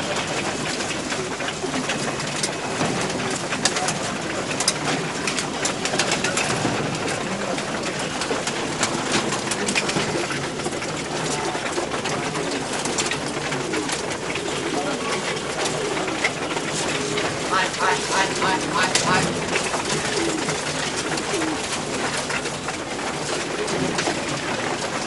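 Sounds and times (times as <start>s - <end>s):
pigeons cooing: 0.0s - 25.0s
wings flapping: 0.0s - 25.0s.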